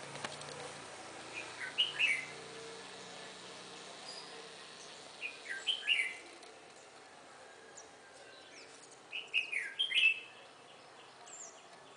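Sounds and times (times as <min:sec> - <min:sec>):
bird chirping: 0:00.5 - 0:07.0, 0:07.8 - 0:11.9.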